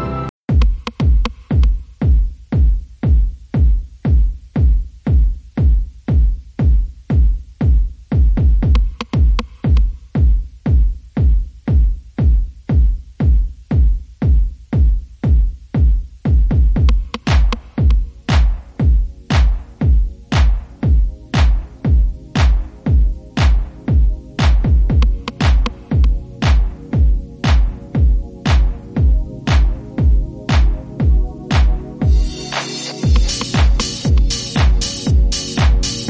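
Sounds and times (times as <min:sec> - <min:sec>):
electronic dance music: 0:00.0 - 0:36.0
heavy kick drum: 0:00.5 - 0:32.4, 0:33.0 - 0:36.0.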